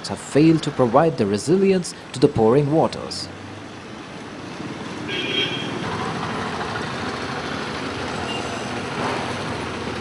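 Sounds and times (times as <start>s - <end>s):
vehicles driving past: 0.0s - 10.0s.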